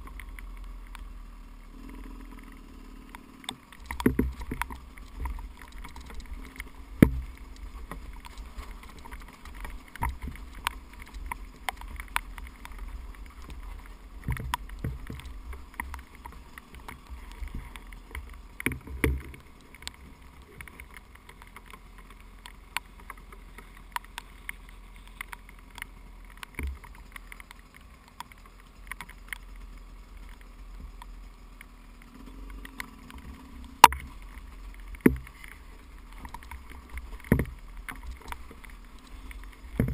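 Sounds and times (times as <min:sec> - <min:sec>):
dirt bike engine running: 0:00.0 - 0:39.9
bike knocking over rocks: 0:03.6 - 0:29.6, 0:32.5 - 0:39.9.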